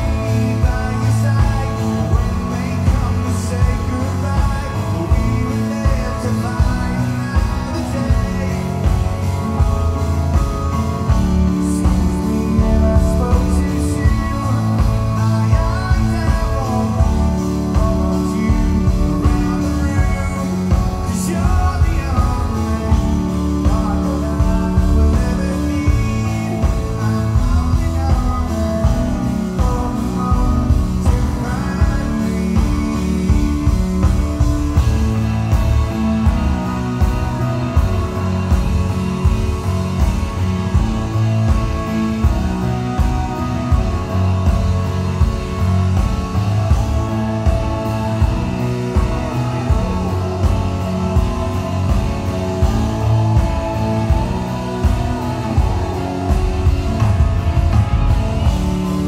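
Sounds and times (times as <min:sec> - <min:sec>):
acoustic guitar strumming: 0:00.0 - 0:59.0
bass guitar: 0:00.0 - 0:59.0
drums steady beat: 0:00.0 - 0:59.0
electric guitars: 0:00.0 - 0:59.0
man singing lead vocal: 0:00.0 - 0:59.0.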